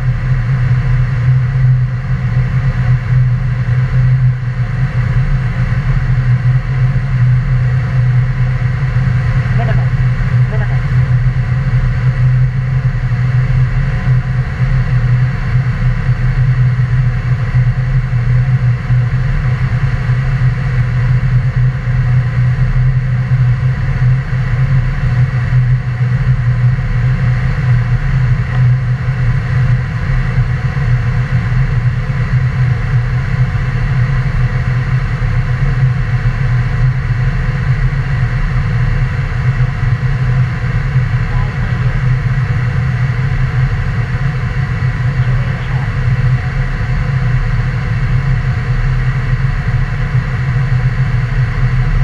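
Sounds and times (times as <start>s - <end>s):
jet engines droning: 0.0s - 52.0s.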